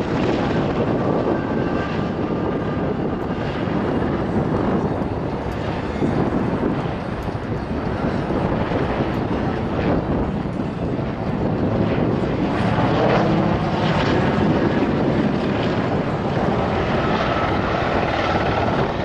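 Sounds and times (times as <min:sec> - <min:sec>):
helicopter flying: 0:00.0 - 0:19.0.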